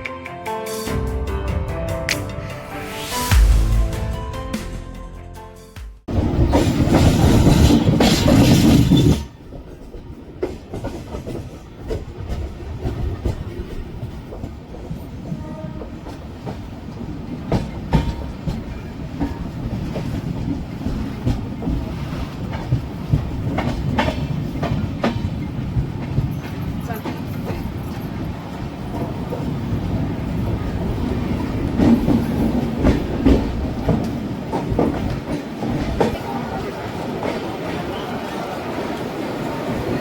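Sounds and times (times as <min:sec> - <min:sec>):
loud rushing train noise: 0:00.0 - 0:40.0
train rumbling: 0:06.0 - 0:40.0.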